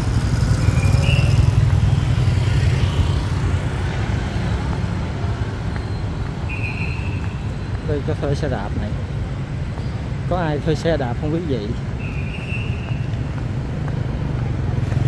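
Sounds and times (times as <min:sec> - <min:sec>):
motorbikes running: 0:00.0 - 0:15.0.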